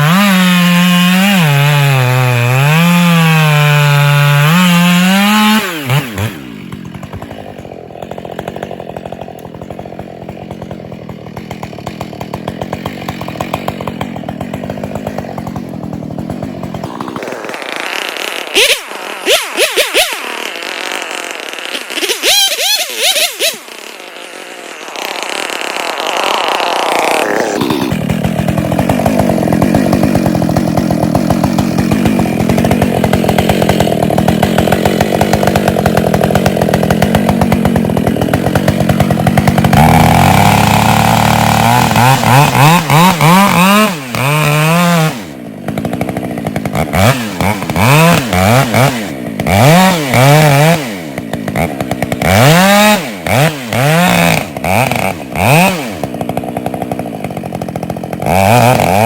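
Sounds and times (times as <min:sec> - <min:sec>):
chainsaw revving: 0:00.0 - 0:59.0.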